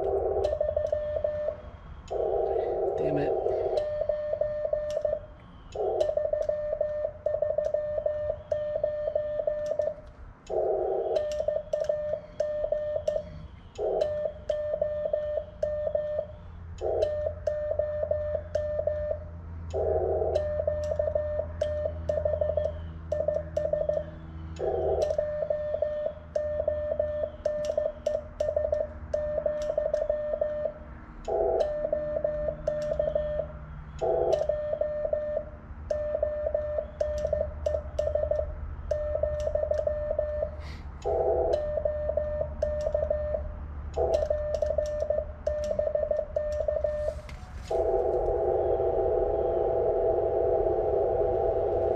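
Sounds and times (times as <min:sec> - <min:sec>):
morse code beeps: 0:00.0 - 0:51.9.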